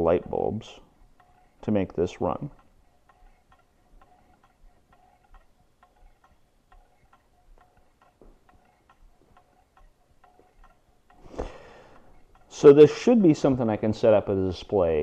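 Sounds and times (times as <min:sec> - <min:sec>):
small engine ticking: 0:00.0 - 0:13.6.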